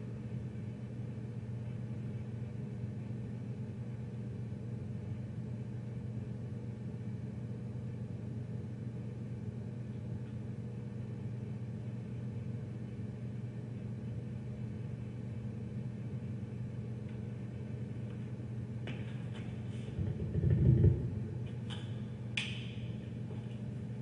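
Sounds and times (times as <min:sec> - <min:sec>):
speaker electrical hum and hiss: 0:00.0 - 0:24.0.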